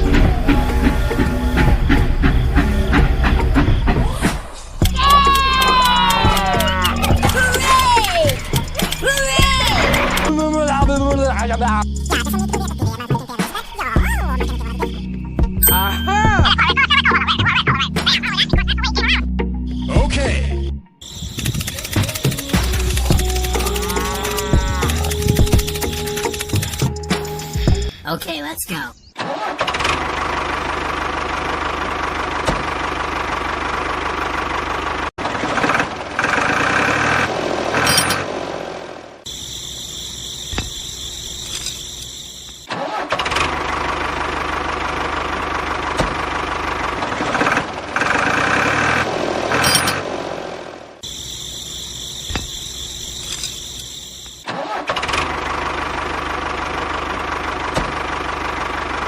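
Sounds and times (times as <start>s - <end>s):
tractor engine running: 0.0s - 20.0s, 21.0s - 28.3s, 29.2s - 59.0s.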